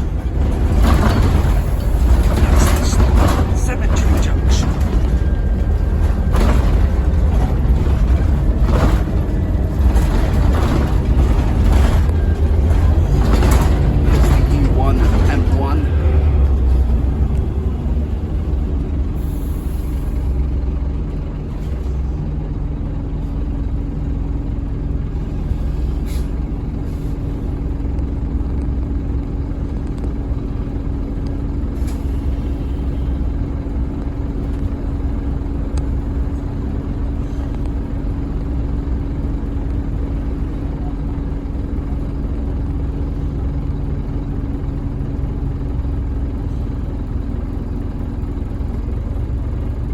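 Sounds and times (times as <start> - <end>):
constant whine: 0.0 - 49.9
diesel bus engine running: 0.0 - 49.9
road rumble: 0.0 - 49.9.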